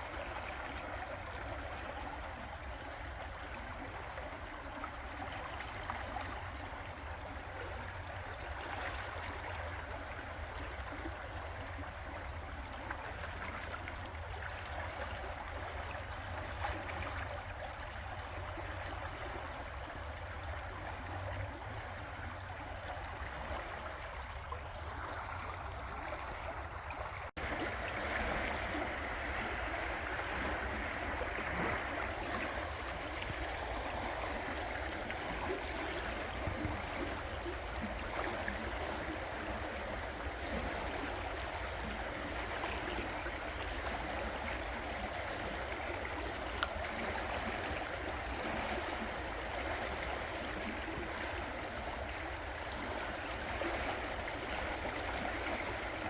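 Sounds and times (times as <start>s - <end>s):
river water rushing and gurgling: 0.0s - 56.0s.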